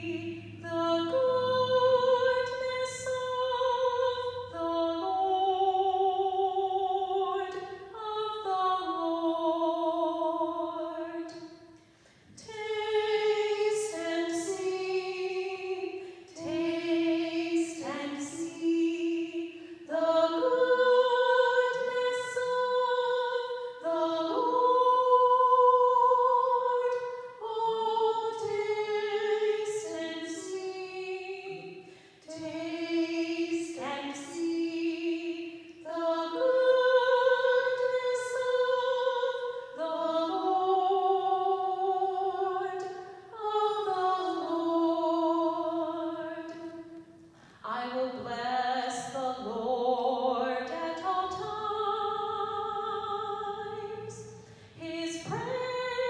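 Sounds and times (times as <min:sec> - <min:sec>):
woman singing a hymn: 0:00.0 - 0:11.7, 0:12.4 - 0:56.0.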